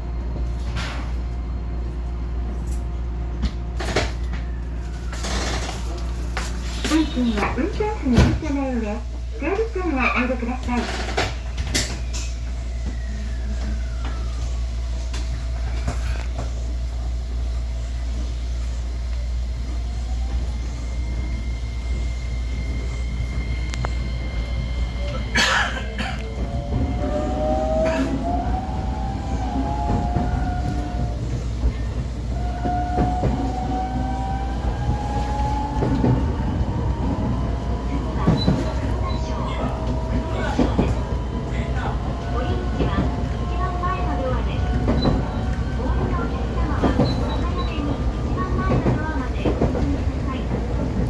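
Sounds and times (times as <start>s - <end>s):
train running low hum: 0.0s - 51.0s.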